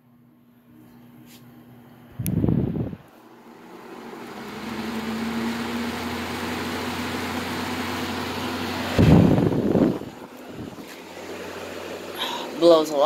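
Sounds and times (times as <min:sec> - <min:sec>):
air conditioner fan rushing: 0:00.0 - 0:13.0.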